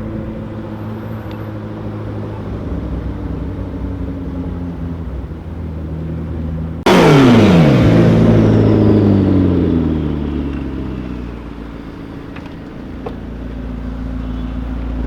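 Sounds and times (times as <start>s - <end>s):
car engine revs falling: 0.6s - 13.8s.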